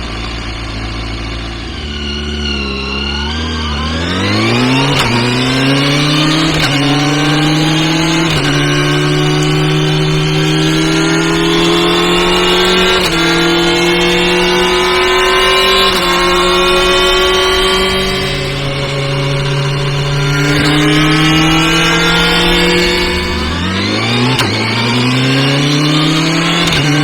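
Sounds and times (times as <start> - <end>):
motorcycle engine accelerating: 0.0 - 27.0
gear shifts: 0.1 - 27.0.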